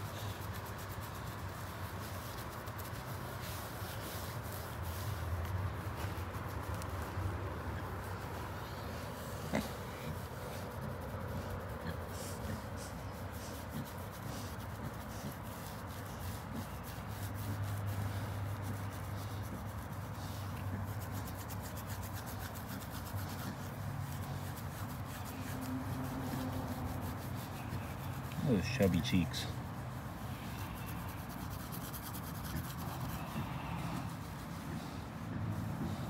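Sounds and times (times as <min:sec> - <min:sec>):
hand scratching bristly coat: 0:00.0 - 0:36.0.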